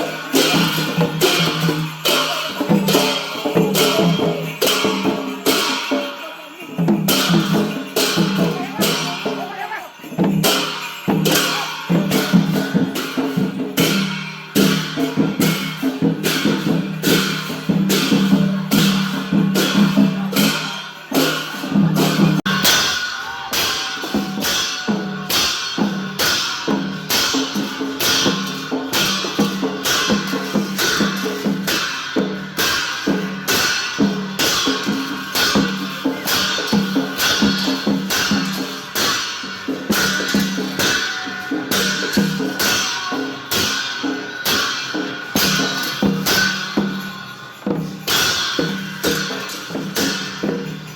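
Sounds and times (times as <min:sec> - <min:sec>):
drum and cymbal beats: 0:00.0 - 0:50.9.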